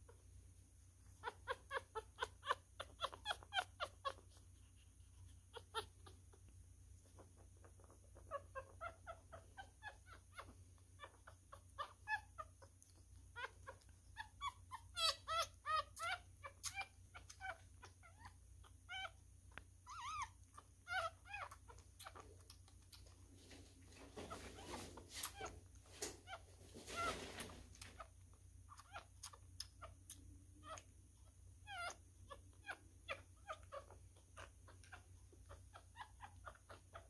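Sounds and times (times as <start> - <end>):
puppy squeaking and whimpering: 1.0 - 37.0.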